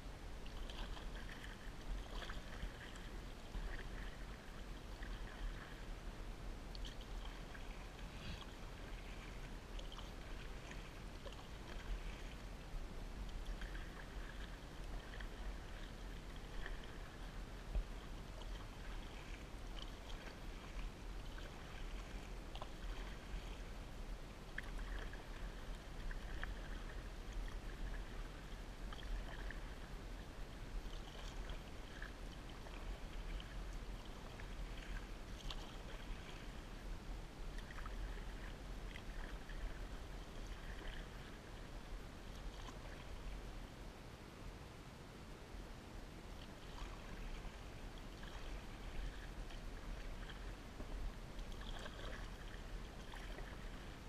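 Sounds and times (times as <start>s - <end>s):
water lapping at hull: 0.0s - 44.5s, 45.2s - 54.0s
low steady rumble: 0.0s - 54.0s
paddle splashing water: 0.1s - 43.8s, 46.2s - 54.0s.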